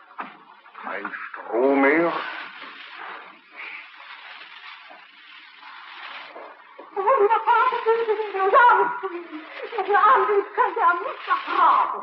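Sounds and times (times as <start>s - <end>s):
radio hiss and static: 0.0s - 12.0s.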